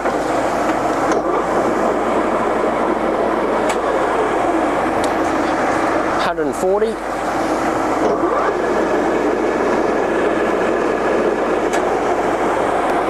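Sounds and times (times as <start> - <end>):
lathe gearing and motor drone: 0.0 - 13.0
rising whine: 0.0 - 13.0.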